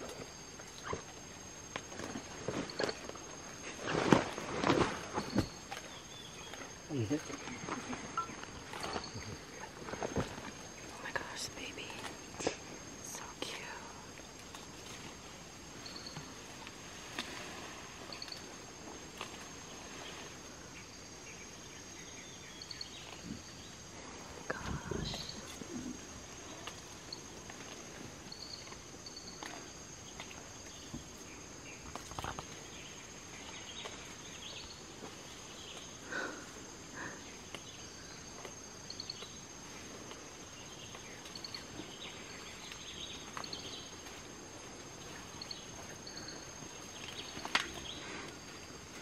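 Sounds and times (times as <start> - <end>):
rustles and snaps in vegetation: 0.0 - 20.8, 22.7 - 49.0.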